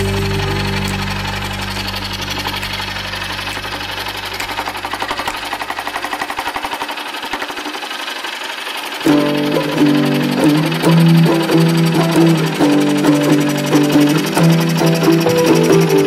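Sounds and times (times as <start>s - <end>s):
scroll saw cutting wood: 0.0s - 16.0s.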